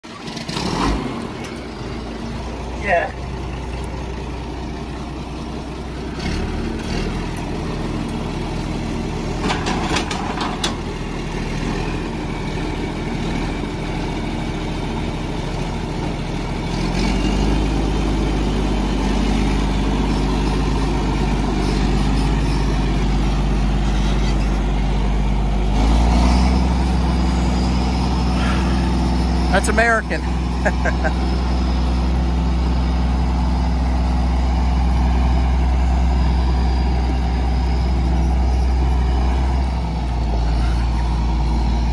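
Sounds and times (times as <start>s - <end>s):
tractor diesel engine: 0.0s - 41.9s.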